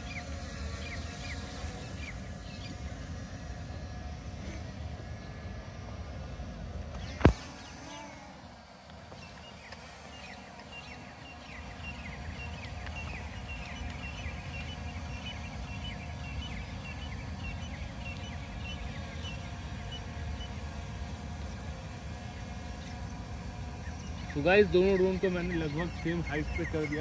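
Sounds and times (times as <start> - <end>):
quadcopter propeller hum: 0.0 - 27.0.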